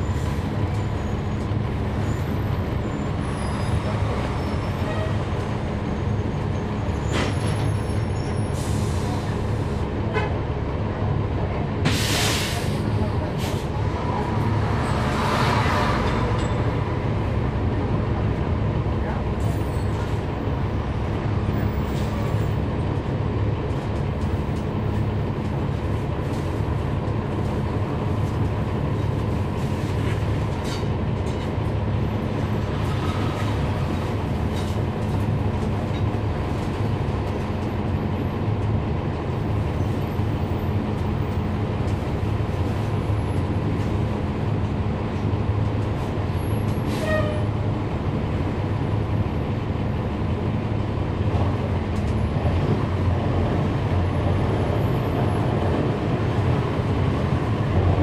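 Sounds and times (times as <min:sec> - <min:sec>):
bus engine rumble: 0:00.0 - 0:58.0.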